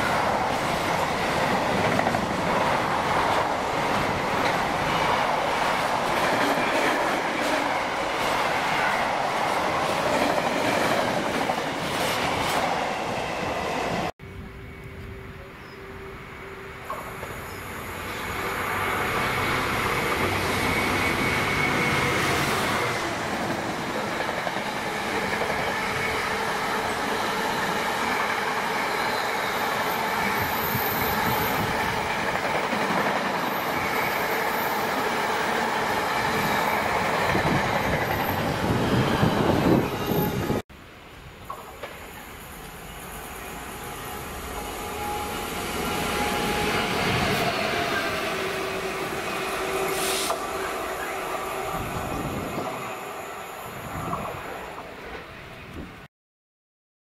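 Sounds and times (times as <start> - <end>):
diesel locomotive passing: 0.0 - 55.8.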